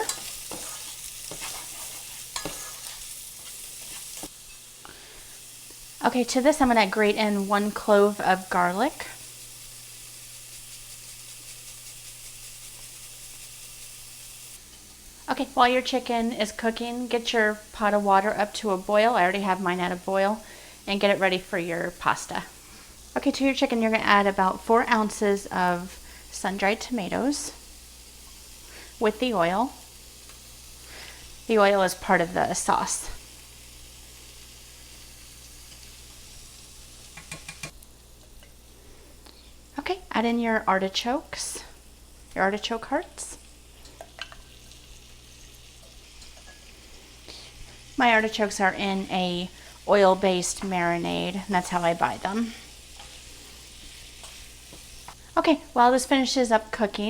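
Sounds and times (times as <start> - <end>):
chicken sizzling in oil: 0.0 - 57.0.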